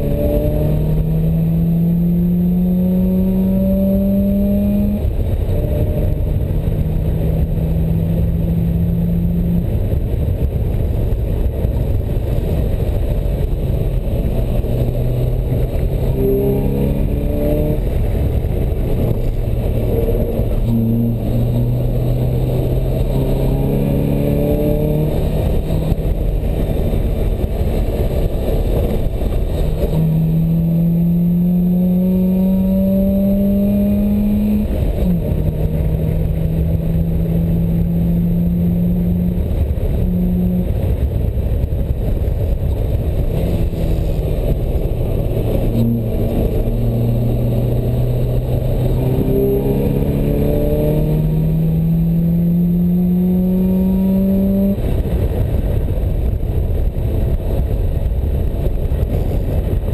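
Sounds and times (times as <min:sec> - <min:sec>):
sports car engine revving: 0:00.0 - 0:11.1, 0:11.7 - 0:41.3, 0:42.3 - 0:55.2
wind and road noise: 0:00.0 - 0:59.9.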